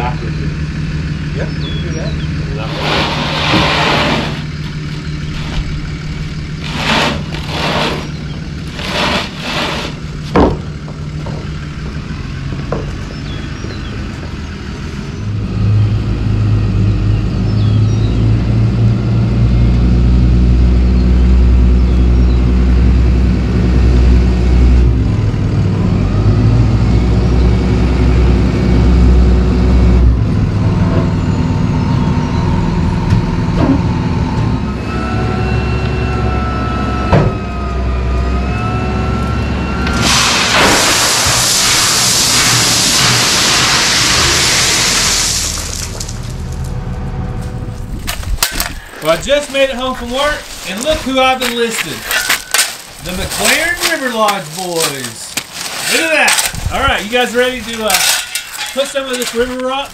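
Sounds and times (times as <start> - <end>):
dump truck engine running: 0.0 - 59.9.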